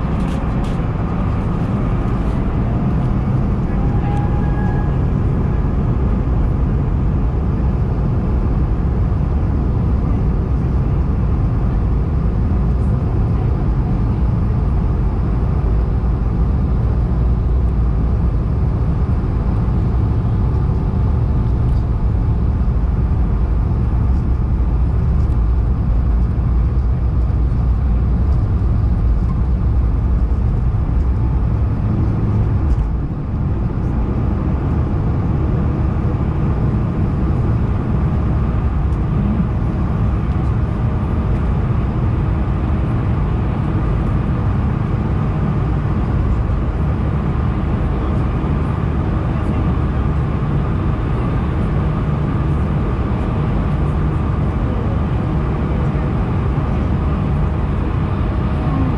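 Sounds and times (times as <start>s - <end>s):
airplane cabin engine rumble: 0.0s - 58.9s.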